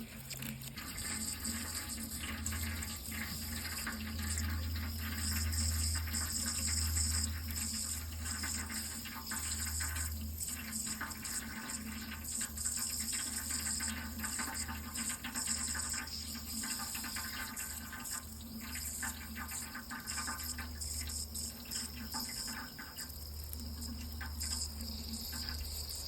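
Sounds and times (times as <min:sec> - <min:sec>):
water running: 0:00.1 - 0:26.0.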